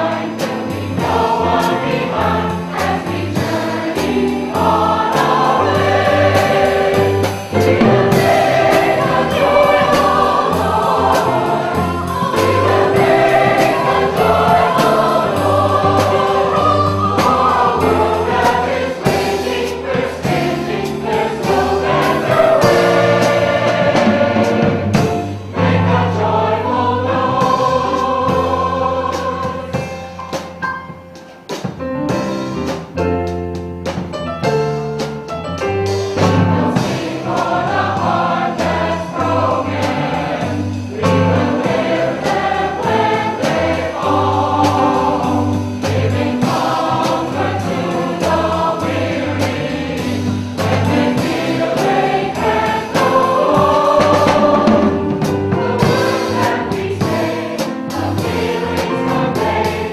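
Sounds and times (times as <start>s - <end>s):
mixed chorus singing: 0.0s - 30.4s, 36.1s - 59.9s.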